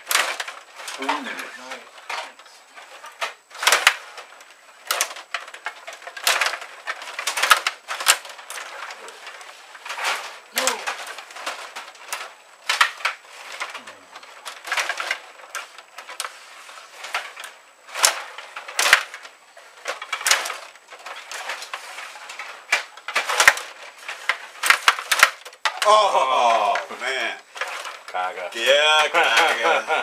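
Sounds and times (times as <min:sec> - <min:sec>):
plastic figures clacking on puck: 0:00.0 - 0:30.0.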